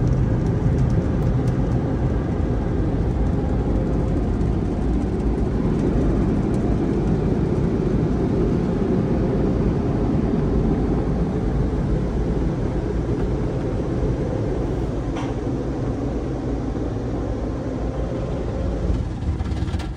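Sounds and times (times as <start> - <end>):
car wash drying blowers: 0.0 - 19.9.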